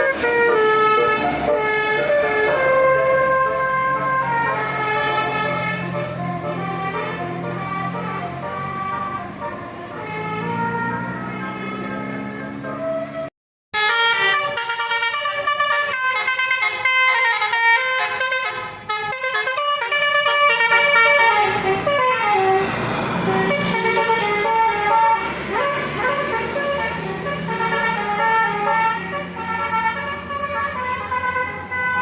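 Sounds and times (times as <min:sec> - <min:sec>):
musical vehicle horn: 0:00.0 - 0:32.0.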